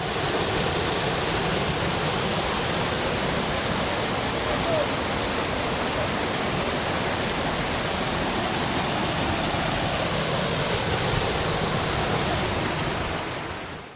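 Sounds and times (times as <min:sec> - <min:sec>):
river water rushing over rocks: 0:00.0 - 0:13.9.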